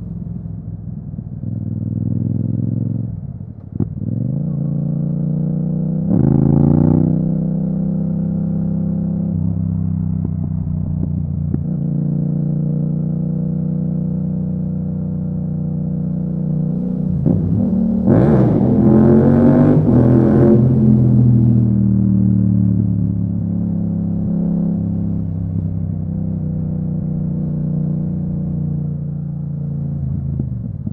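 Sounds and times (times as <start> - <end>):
motorcycle engine revving: 3.8 - 30.9.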